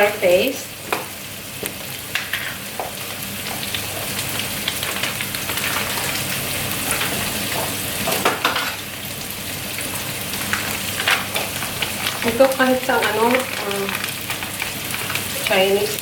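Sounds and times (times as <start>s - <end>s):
curry paste sizzling in oil: 0.0s - 16.0s.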